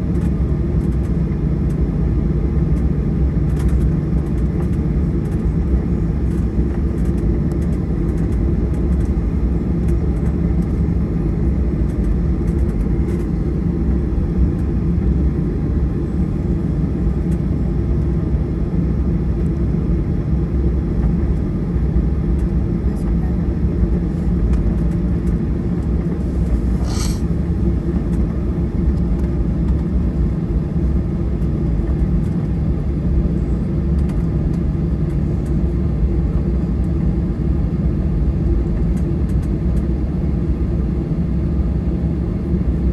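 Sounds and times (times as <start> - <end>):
jet engines rumbling in cabin: 0.0 - 42.9.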